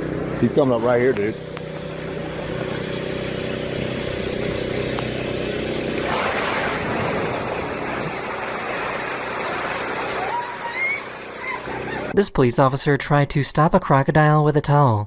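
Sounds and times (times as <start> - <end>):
engine idling: 0.0 - 12.1
water rushing and splashing: 0.0 - 12.2.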